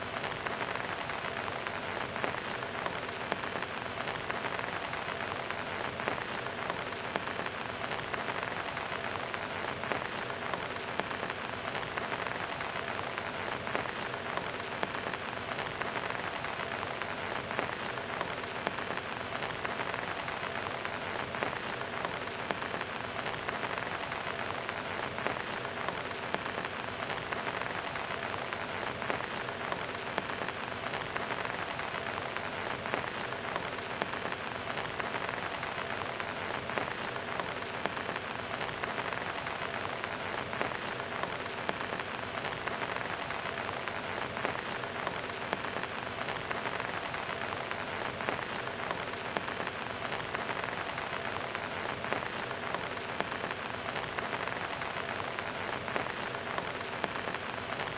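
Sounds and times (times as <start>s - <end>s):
rain splashing on concrete: 0.0s - 57.9s.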